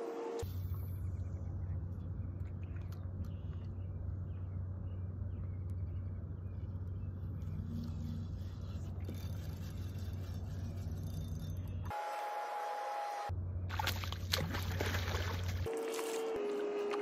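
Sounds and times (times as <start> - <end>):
low electric motor hum: 0.0 - 17.0.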